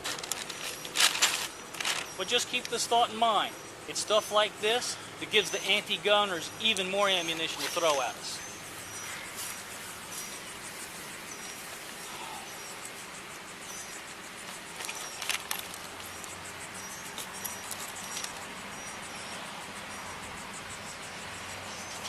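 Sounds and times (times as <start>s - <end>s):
insects chirping: 0.0s - 22.0s
steady background hum: 0.0s - 22.0s.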